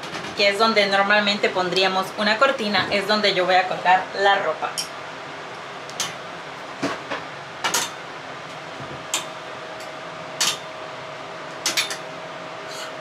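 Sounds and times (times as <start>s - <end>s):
ventilation dryer hissing: 0.0s - 13.0s.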